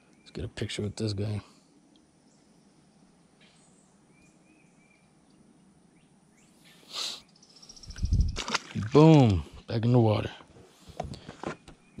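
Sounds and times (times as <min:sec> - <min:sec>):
faint bird chirps: 0:00.0 - 0:08.4, 0:10.8 - 0:12.0.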